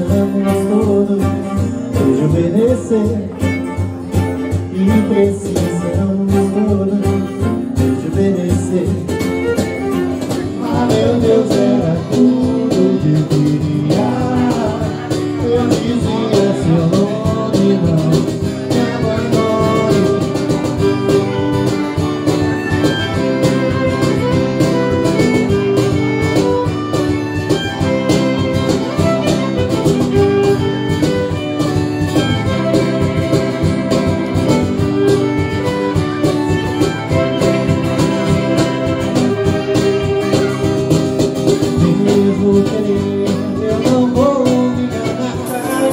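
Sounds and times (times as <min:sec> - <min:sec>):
cajon: 0:00.0 - 0:45.9
strummed acoustic guitar: 0:00.0 - 0:45.9.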